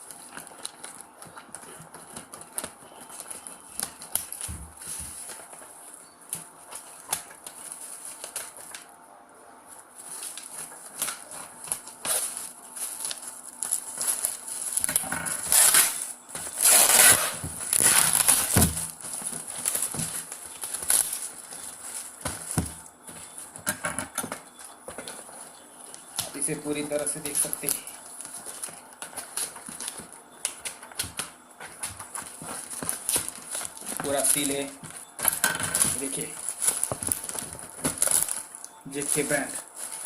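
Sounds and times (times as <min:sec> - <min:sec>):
packaging rustling and crackling: 0:00.0 - 0:08.9, 0:09.6 - 0:40.0
small clicks and crinkles: 0:00.0 - 0:08.9, 0:09.6 - 0:40.0.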